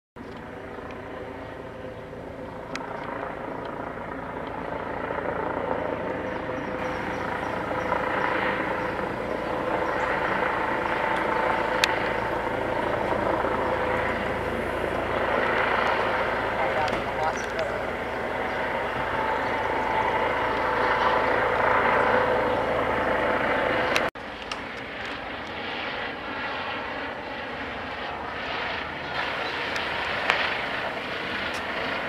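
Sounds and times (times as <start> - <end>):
helicopter rotor and turbine whine: 0.2 - 32.0.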